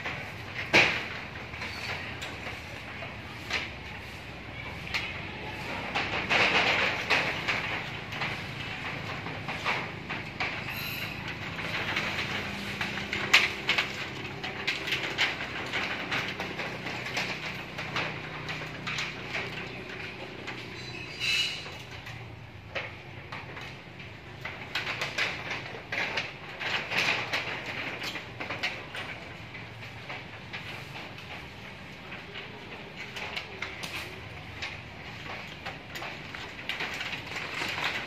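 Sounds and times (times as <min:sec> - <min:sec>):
monkeys clattering on metal roof: 0:00.0 - 0:38.0.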